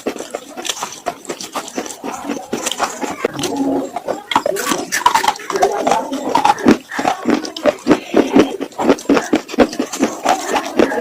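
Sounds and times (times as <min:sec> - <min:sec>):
slate pencils being chewed: 0:00.0 - 0:11.0.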